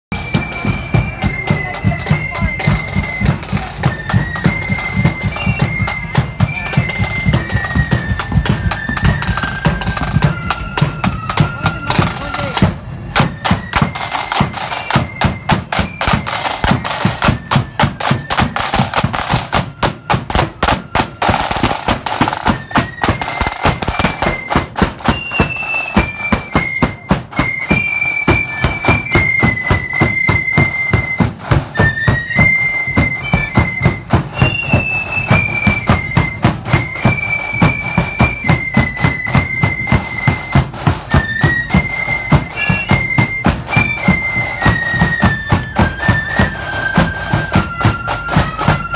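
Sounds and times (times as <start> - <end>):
snare drums beating: 0.1 - 48.9
shrill fife melody: 0.2 - 48.9.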